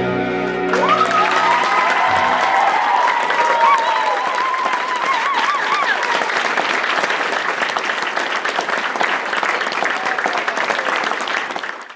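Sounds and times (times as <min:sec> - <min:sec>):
audience applauding: 0:00.7 - 0:11.9.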